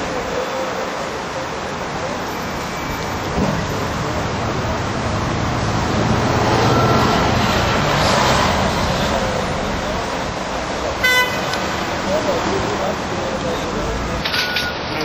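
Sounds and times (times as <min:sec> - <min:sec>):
car pulling in close: 0:00.0 - 0:14.2
passing cars rumbling: 0:00.0 - 0:15.0.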